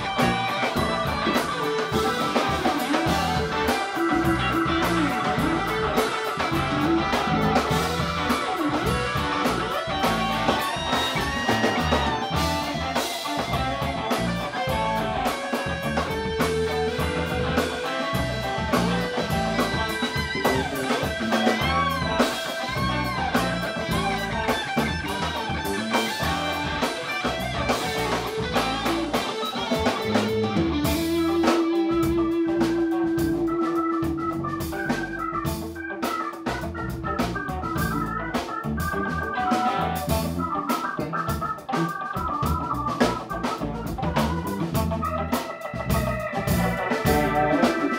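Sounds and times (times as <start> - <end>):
bass guitar: 0.0 - 47.9
drum kit: 0.0 - 47.9
electric guitars: 0.0 - 47.9
held organ note: 0.0 - 47.9
keyboard: 0.0 - 47.9.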